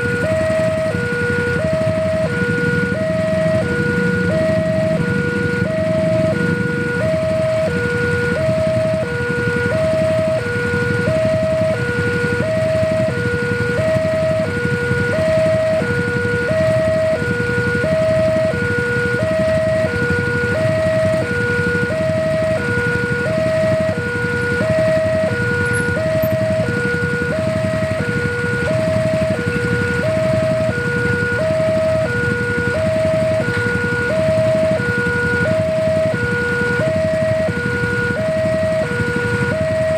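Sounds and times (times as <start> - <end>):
level-crossing alarm two tones: 0.0 - 39.9.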